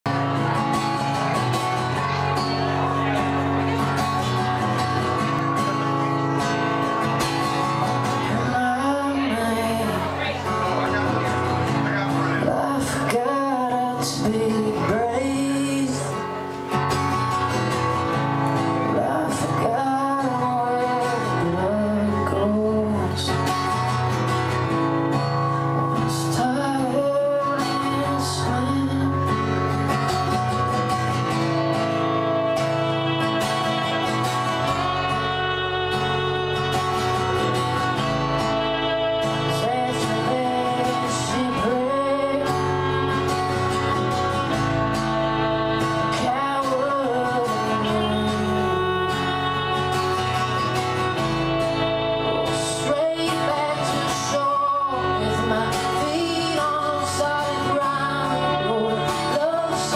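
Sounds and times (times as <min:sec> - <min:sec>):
bass guitar: 0:00.0 - 0:59.9
fiddle: 0:00.1 - 0:59.9
person singing: 0:00.1 - 0:59.9
strummed acoustic guitar: 0:00.1 - 0:59.9.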